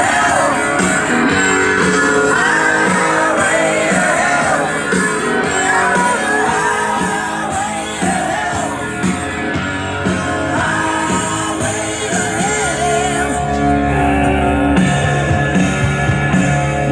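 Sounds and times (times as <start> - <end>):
rock song with singing: 0.0 - 16.9.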